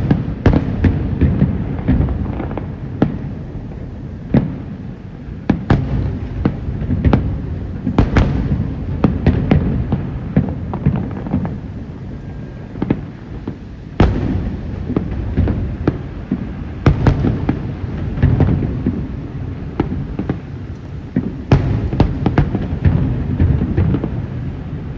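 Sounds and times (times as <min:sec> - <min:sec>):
fireworks bursting with sharp bangs: 0:00.0 - 0:24.9
low rumble of explosions: 0:00.0 - 0:24.9.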